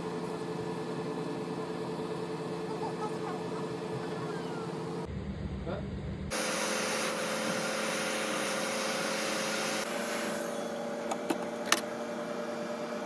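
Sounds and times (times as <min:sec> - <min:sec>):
electric fan blowing: 0:00.0 - 0:13.0.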